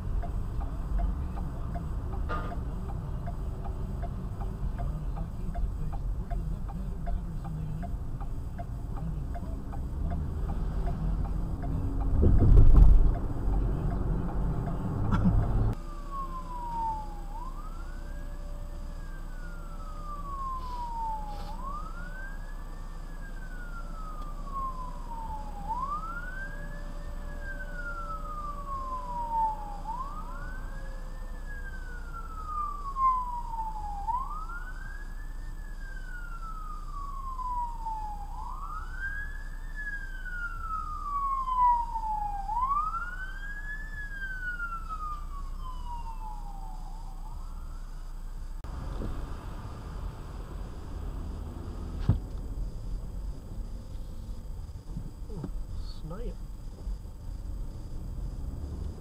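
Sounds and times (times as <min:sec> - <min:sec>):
emergency vehicle siren wailing: 0:00.0 - 0:56.3
vehicle engine and road rumble: 0:00.0 - 0:59.0.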